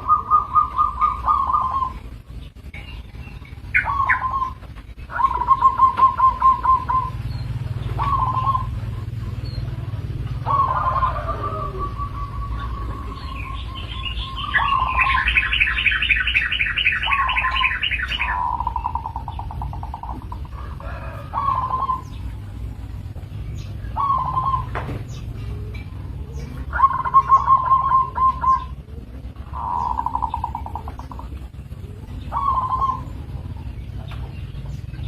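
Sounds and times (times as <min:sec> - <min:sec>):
bird chirping rapidly: 0:00.0 - 0:20.6, 0:21.3 - 0:28.9, 0:29.5 - 0:35.0
doves cooing: 0:00.0 - 0:35.0.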